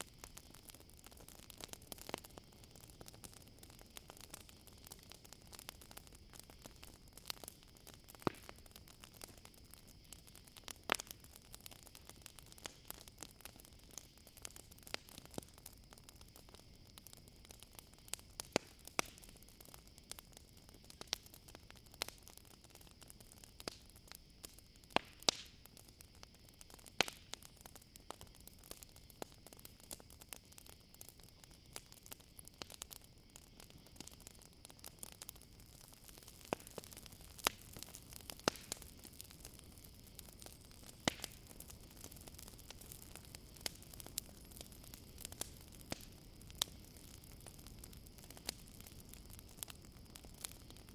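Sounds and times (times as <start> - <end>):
campfire crackling: 0.0 - 50.9
crickets chirring: 0.0 - 50.9.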